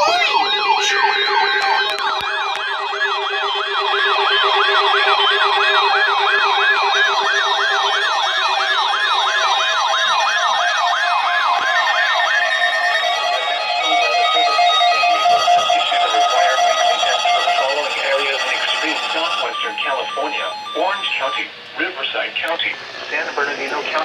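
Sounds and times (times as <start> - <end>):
electronic siren yelp: 0.0 - 24.0
high siren warbles: 0.0 - 24.0.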